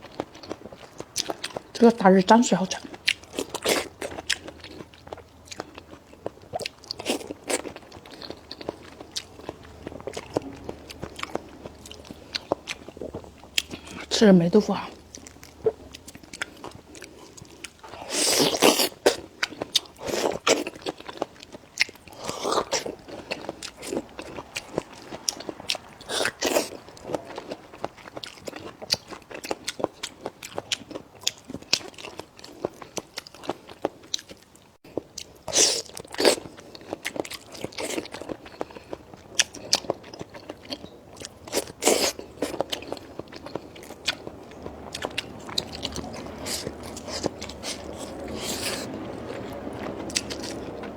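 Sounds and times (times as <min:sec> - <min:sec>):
food crunches: 0:02.8 - 0:14.1, 0:15.0 - 0:50.9
person chewing and biting: 0:02.8 - 0:14.1, 0:15.0 - 0:50.9.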